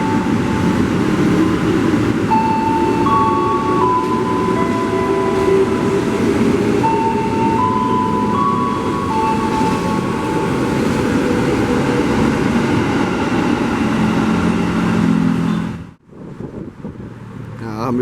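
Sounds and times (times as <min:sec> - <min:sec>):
train running past: 0:00.0 - 0:16.0.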